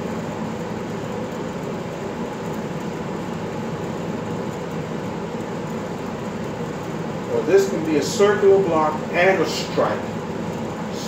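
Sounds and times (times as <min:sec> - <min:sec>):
low room noise rumble: 0:00.0 - 0:11.0.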